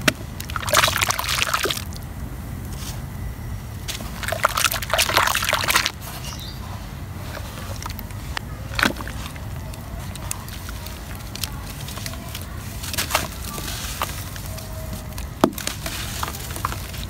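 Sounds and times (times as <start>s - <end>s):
muddy water sloshing: 0.0s - 2.1s, 2.7s - 17.0s
wet squelching: 0.4s - 2.0s, 3.8s - 17.0s.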